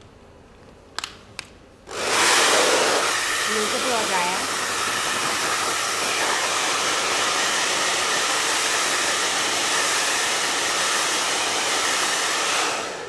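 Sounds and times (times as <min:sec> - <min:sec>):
hair dryer blowing air: 0:01.9 - 0:13.0.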